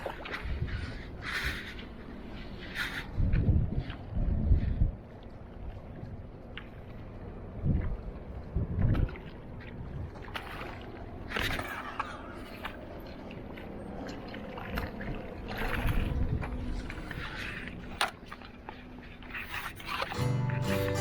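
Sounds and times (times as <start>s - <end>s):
water sloshing and splashing: 0.0s - 20.6s.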